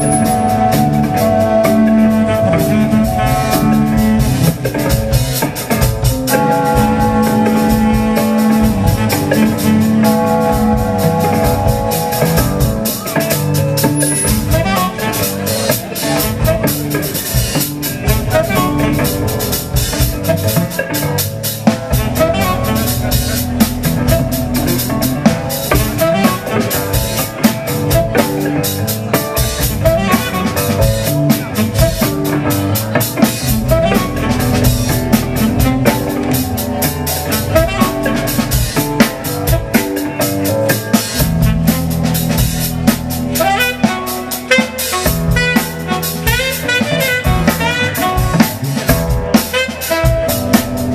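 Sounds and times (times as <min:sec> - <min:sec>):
jazz-funk band playing: 0:00.0 - 0:50.9.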